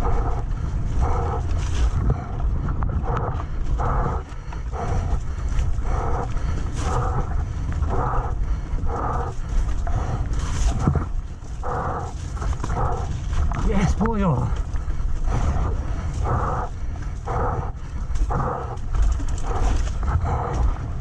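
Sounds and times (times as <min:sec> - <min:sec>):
wind and trail rumble: 0:00.0 - 0:21.0.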